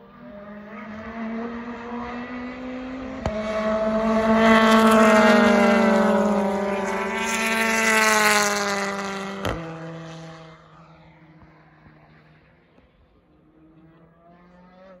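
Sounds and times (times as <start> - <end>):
distant engine: 0.0 - 15.0
race car engine passing: 0.0 - 15.0.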